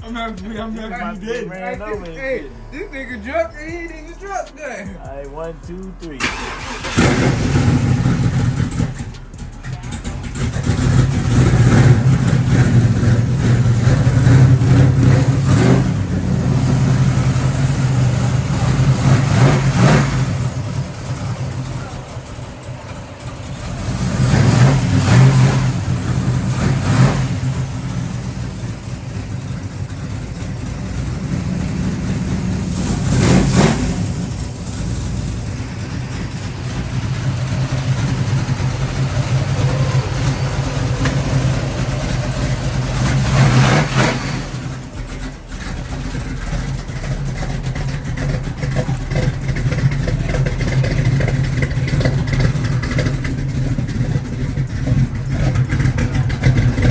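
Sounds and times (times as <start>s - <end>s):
car engine revving and idling: 0.0s - 56.9s.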